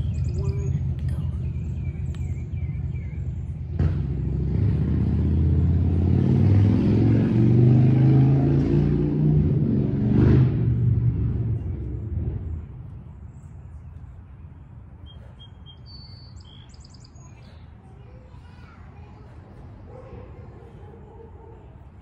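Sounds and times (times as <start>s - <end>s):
engine running low hum: 0.0s - 22.0s.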